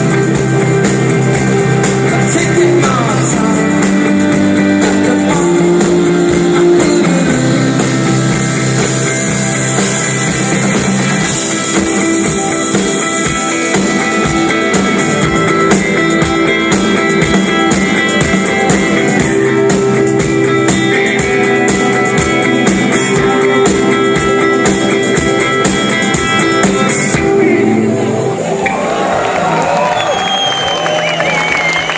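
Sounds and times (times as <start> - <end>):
steady drum beat: 0.0 - 27.6
electric guitars: 0.0 - 31.9.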